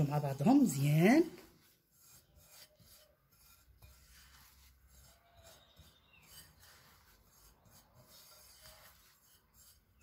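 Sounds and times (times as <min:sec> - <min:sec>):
fingers rubbing semolina: 0:00.0 - 0:10.0.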